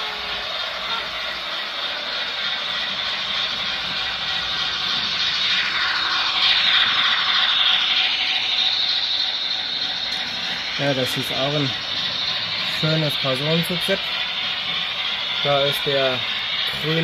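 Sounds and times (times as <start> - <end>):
model train whirring on rails: 0.0 - 17.0.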